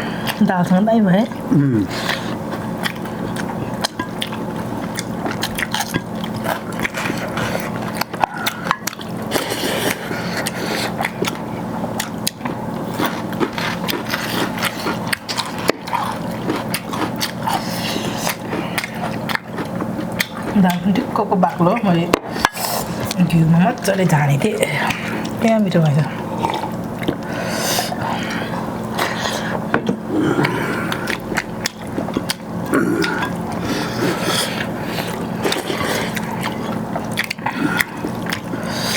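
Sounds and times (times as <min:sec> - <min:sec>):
person chewing food: 0:01.3 - 0:20.9, 0:24.7 - 0:25.4, 0:26.2 - 0:38.9.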